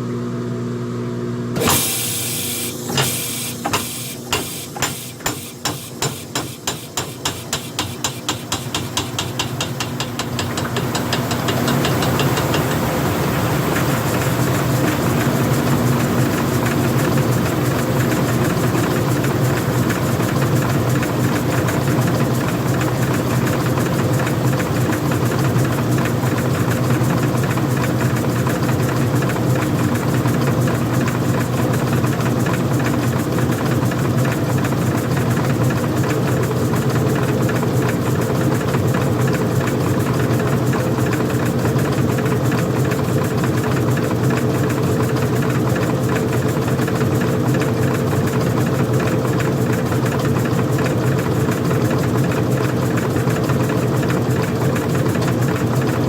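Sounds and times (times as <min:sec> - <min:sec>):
washing machine motor hum: 0:01.1 - 0:56.0.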